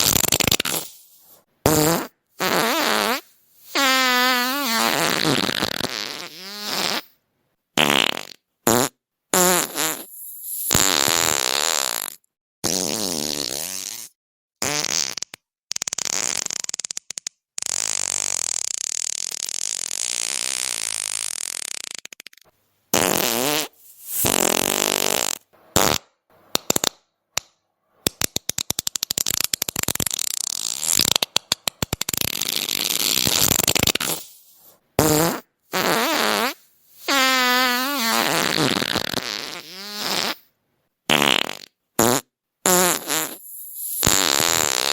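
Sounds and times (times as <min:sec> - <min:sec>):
fart sounds: 0:00.0 - 0:07.2, 0:07.8 - 0:27.0, 0:28.0 - 0:40.5, 0:41.1 - 0:44.9.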